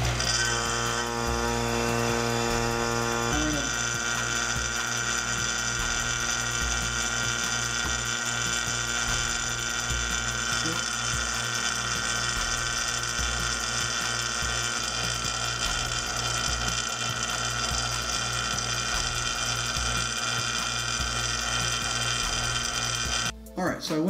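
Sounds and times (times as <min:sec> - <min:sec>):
vacuum pump running: 0:00.0 - 0:23.4
background music with beat: 0:01.2 - 0:24.0.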